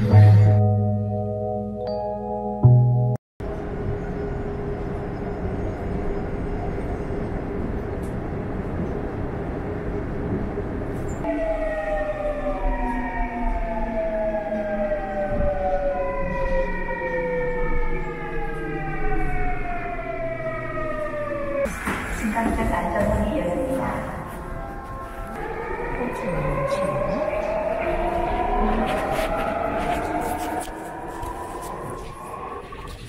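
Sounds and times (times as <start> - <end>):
electric subway train rumble: 3.4 - 33.0.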